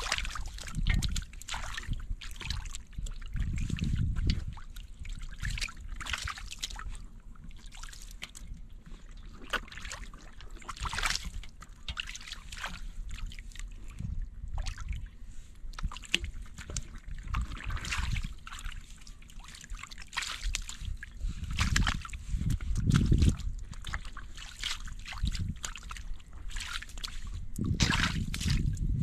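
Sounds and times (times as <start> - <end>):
shallow water splashing: 0.0 - 29.0.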